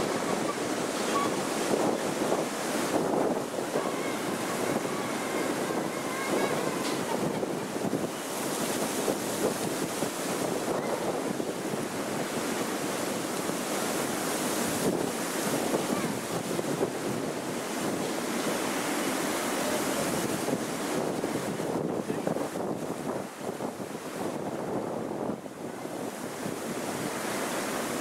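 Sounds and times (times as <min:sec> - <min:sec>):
gusty wind buffeting microphone: 0:00.0 - 0:28.0.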